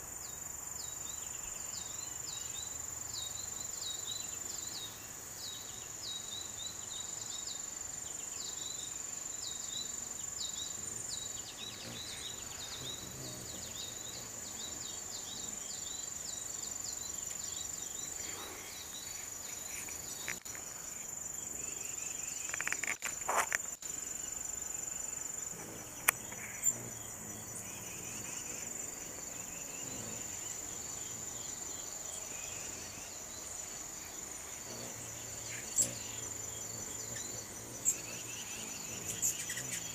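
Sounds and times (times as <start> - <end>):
high-pitched insect drone: 0.0 - 39.9
quick repeated insect chirps: 0.0 - 39.9.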